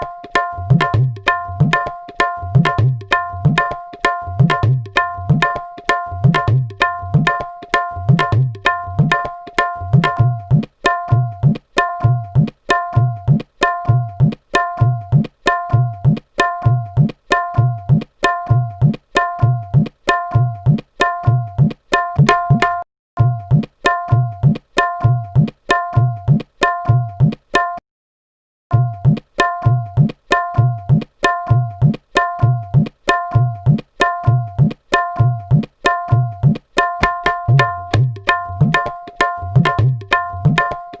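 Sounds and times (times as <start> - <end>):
tabla rhythm: 0.0 - 27.8, 28.7 - 41.0.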